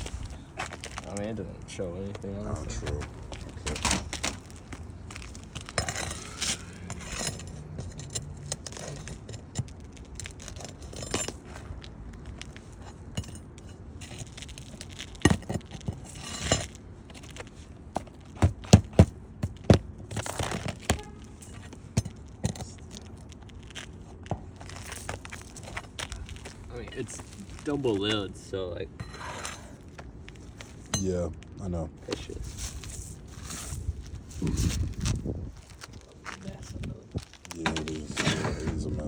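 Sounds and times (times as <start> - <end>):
shingles scraping and tearing: 0.0 - 39.0.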